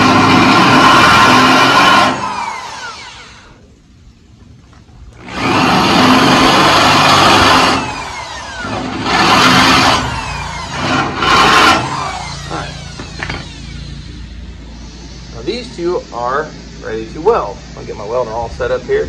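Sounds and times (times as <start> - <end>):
drill drilling through sheet steel: 0.0 - 3.6, 5.2 - 18.8.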